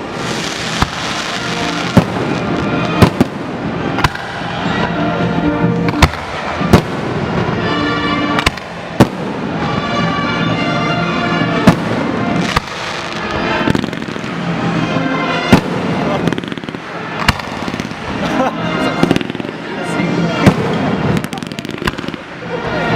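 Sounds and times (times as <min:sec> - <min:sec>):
fireworks banging: 0:00.0 - 0:05.0, 0:05.7 - 0:07.6, 0:08.3 - 0:10.1, 0:11.4 - 0:22.9.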